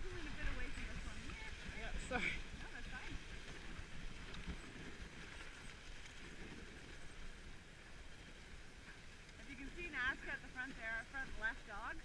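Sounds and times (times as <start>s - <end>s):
sled runners over snow: 0.0s - 12.0s.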